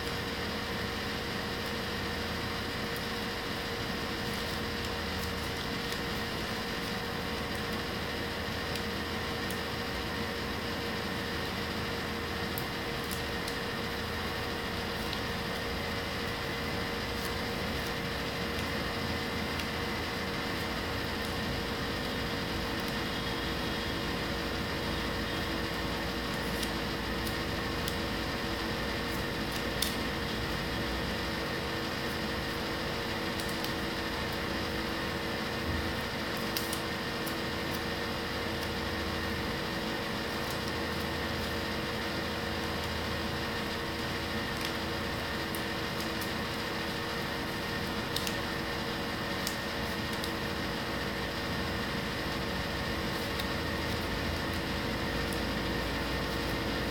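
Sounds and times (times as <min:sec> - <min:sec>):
appliance hum: 0:00.0 - 0:56.9.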